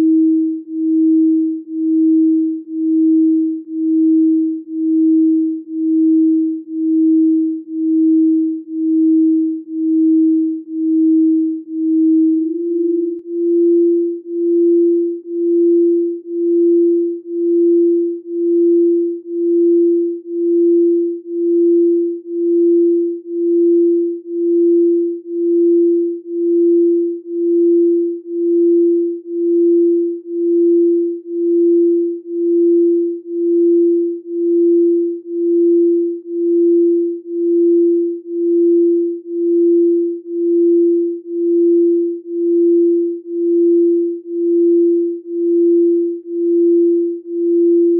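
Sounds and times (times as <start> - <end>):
pulsing sine tone: 0.0 - 47.9.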